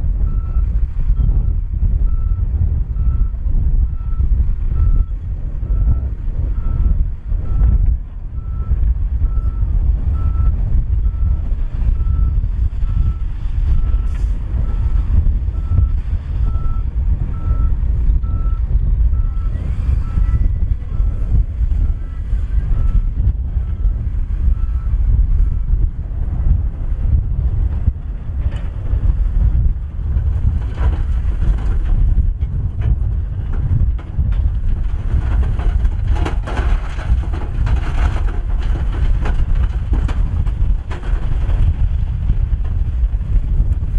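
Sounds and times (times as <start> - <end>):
diesel engine rumbling: 0.0 - 43.9
wind buffeting microphone: 0.0 - 43.9.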